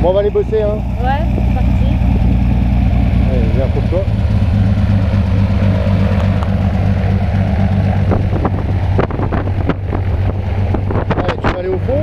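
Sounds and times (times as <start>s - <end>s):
plane engine idling: 0.0s - 12.0s
propeller wash buffeting microphone: 0.0s - 12.0s.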